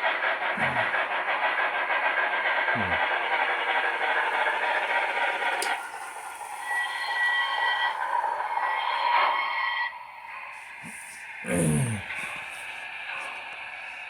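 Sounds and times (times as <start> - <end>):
model locomotive steam chuffing: 0.0 - 14.0.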